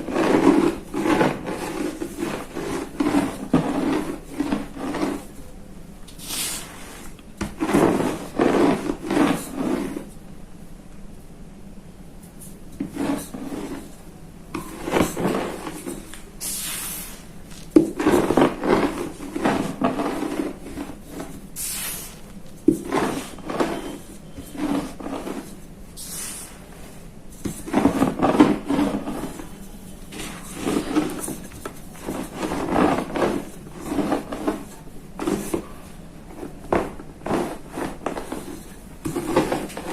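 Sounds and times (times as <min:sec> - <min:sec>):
chalk crunching under rolling pin: 0:00.0 - 0:05.4, 0:06.1 - 0:10.2, 0:12.8 - 0:39.9.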